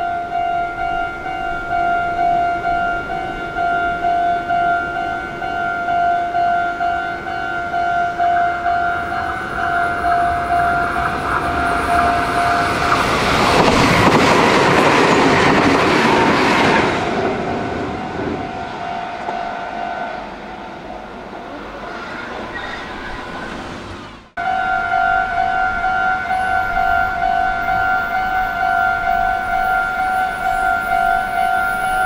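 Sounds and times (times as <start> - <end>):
level-crossing warning bell: 0.0 - 21.9, 24.4 - 32.0
electric train passing: 0.0 - 32.0.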